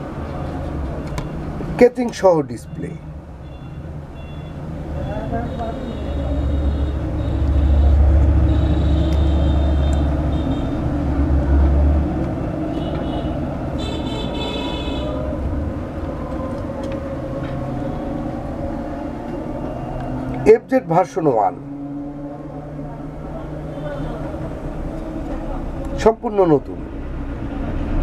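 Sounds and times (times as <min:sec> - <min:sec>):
background traffic: 0:00.0 - 0:28.0
passing vehicle engine rumble: 0:00.0 - 0:28.0.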